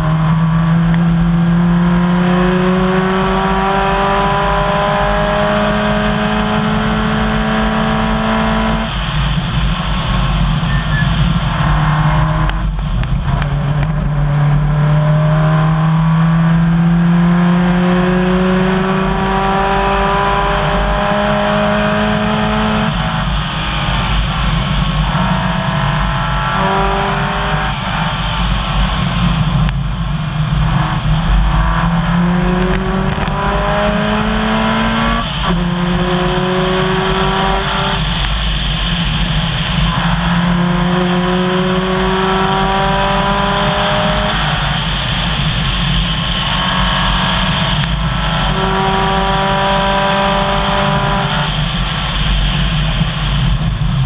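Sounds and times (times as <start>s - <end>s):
gravel and tyre noise: 0.0s - 54.0s
rally car engine revving: 0.0s - 54.0s.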